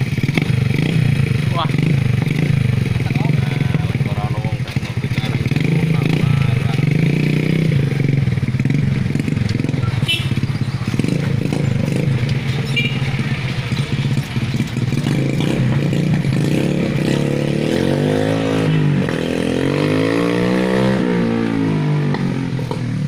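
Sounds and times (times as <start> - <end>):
small motorcycle engine revving: 0.0 - 23.0.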